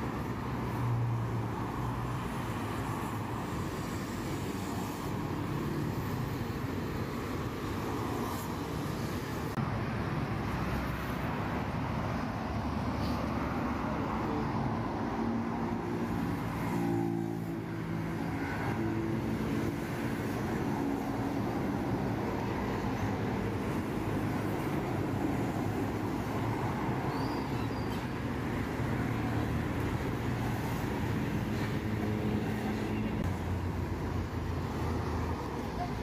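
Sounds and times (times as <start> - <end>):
tyres on the road: 0.0 - 36.0.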